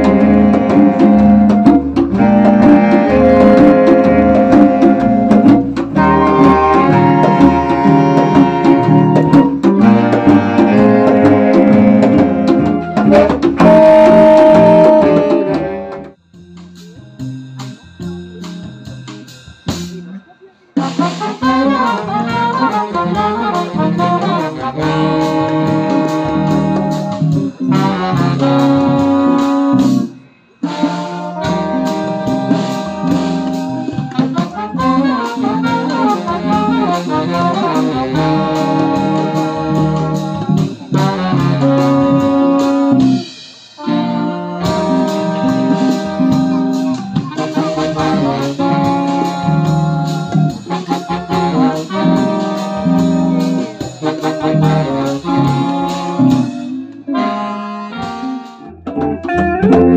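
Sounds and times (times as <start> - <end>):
saxophone: 0.0 - 17.0, 19.9 - 59.9
small jazz band playing: 0.0 - 59.9
trumpet: 0.0 - 59.9.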